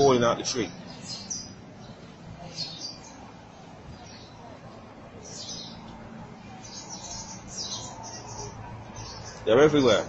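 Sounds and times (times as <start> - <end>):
small birds chirping: 0.0 - 10.0
steady background hum: 0.0 - 10.0.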